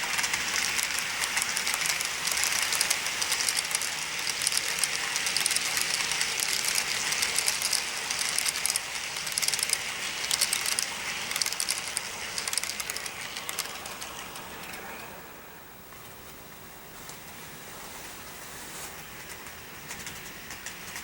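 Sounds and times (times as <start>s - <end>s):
model train wheels clicking on rails: 0.0s - 15.0s, 19.0s - 21.0s.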